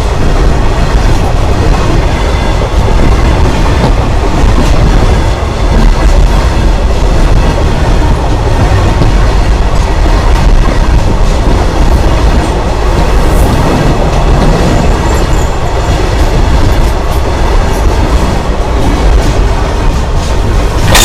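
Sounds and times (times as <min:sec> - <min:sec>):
freight train rumble: 0:00.0 - 0:21.0
steel wheels clattering on rails: 0:00.0 - 0:21.0.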